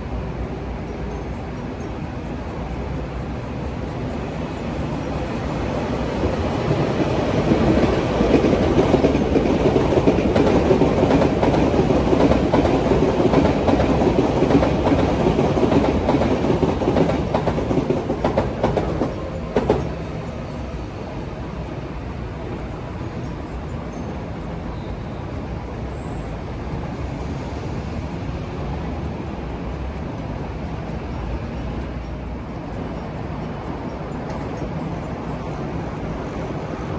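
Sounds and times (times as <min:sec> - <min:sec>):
train passing: 0:00.0 - 0:36.9
wheels clacking over rail joints: 0:00.0 - 0:36.9.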